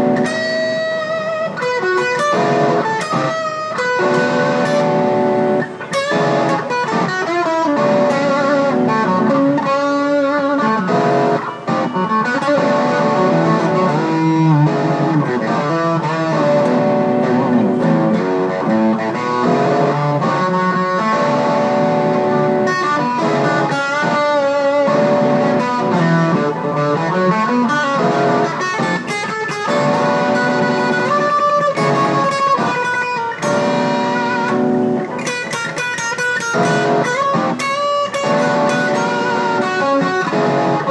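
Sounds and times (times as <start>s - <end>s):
electric guitar lead: 0.0s - 40.9s.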